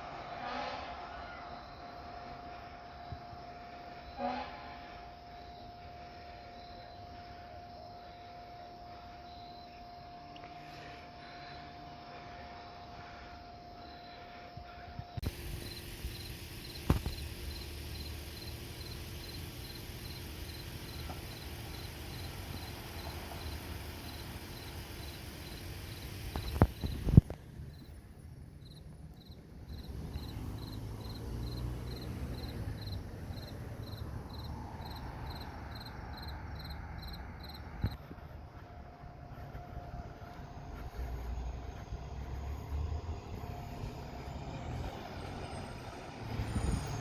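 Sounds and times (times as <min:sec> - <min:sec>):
crickets chirping: 0:01.2 - 0:47.0.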